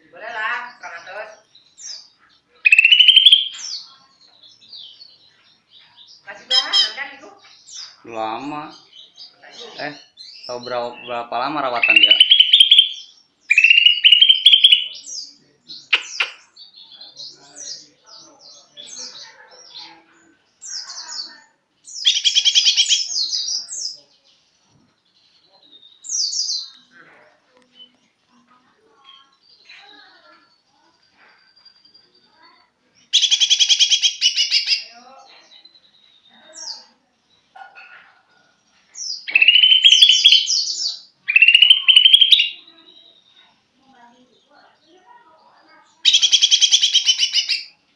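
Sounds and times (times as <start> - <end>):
bird singing trills and chirps: 0.3 - 47.9.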